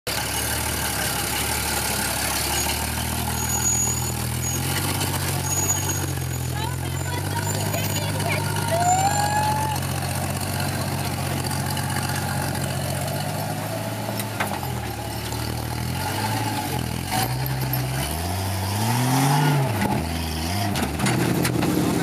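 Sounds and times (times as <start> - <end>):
off-road vehicle engine revving: 0.1 - 22.0.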